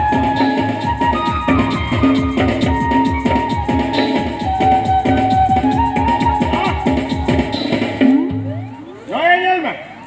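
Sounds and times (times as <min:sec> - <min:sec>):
quick steady drumbeat: 0:00.0 - 0:08.4
held melody line: 0:00.0 - 0:10.0.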